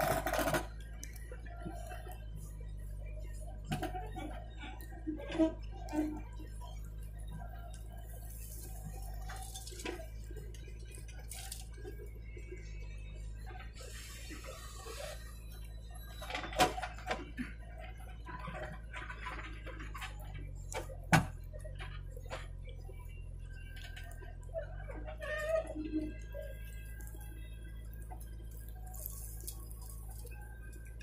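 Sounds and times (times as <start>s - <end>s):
diesel engine humming: 0.0s - 31.0s
tractor engine idling: 0.0s - 31.0s.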